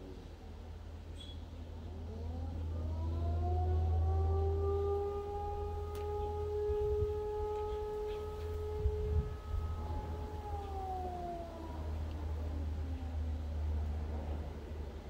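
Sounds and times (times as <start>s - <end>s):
fire siren: 1.8s - 15.0s.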